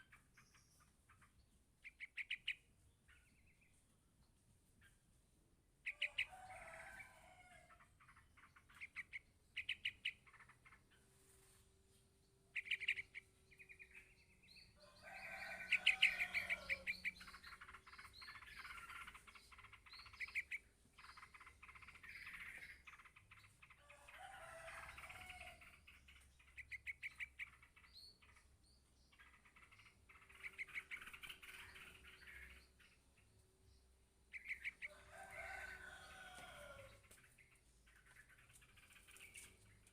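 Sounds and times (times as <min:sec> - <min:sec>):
bird chick chirping: 0:00.0 - 0:04.0, 0:05.8 - 0:11.6, 0:12.5 - 0:39.9.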